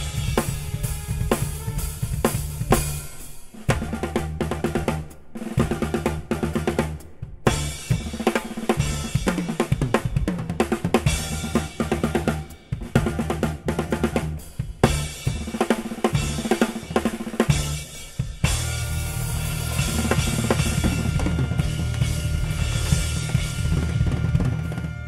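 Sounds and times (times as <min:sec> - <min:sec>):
drum kit playing fast: 0:00.0 - 0:25.0.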